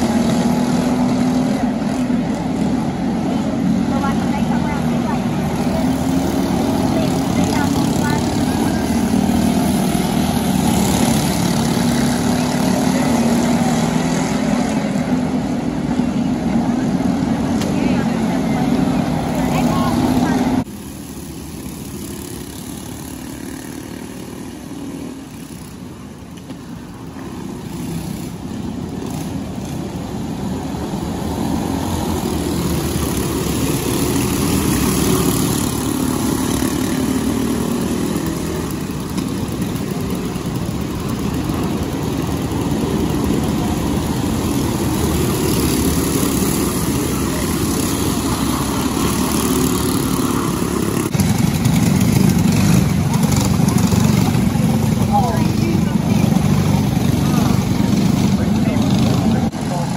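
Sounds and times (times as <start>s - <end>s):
go-kart engines racing: 0.0s - 59.9s.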